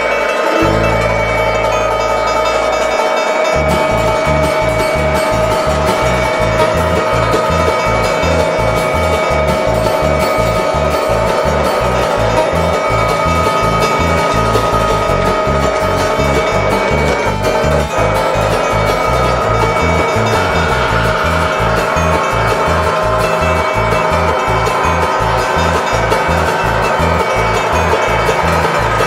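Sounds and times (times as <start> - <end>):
quick rhythmic bass line: 0.0 - 29.0
sustained tones: 0.0 - 29.0.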